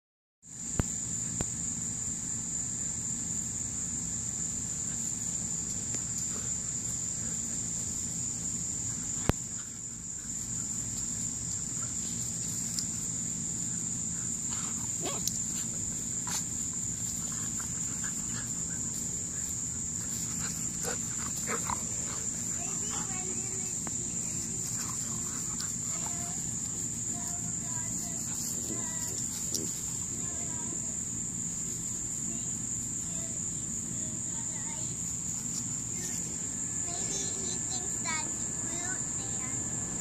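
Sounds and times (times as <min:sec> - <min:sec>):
insects trilling: 0:00.4 - 0:40.0.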